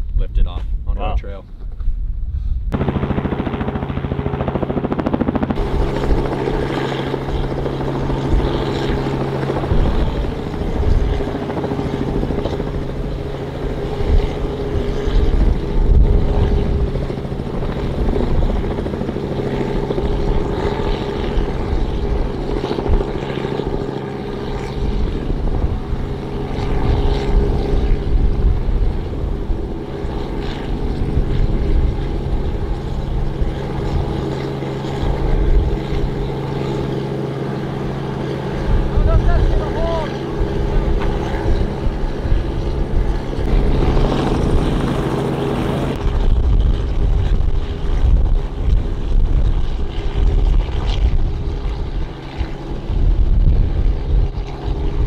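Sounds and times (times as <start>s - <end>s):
low rotor rumble: 0.0s - 55.0s
helicopter engine drone: 2.7s - 55.0s.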